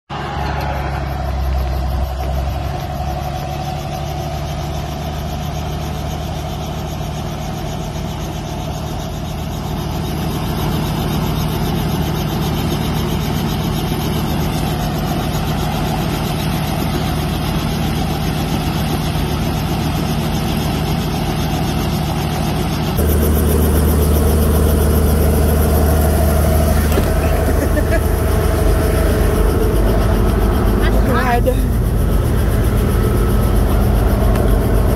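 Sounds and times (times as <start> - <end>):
helicopter engine and rotor idling: 0.1 - 34.9.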